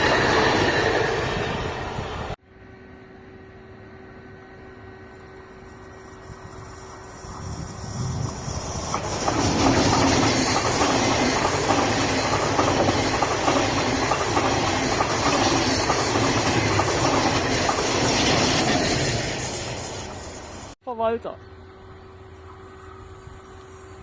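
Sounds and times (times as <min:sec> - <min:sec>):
train passing on track: 0:00.0 - 0:24.0.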